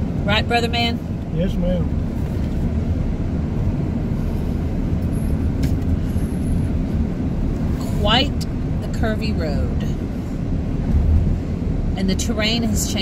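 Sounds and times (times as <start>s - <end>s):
engine and road noise in cab: 0.0s - 13.0s.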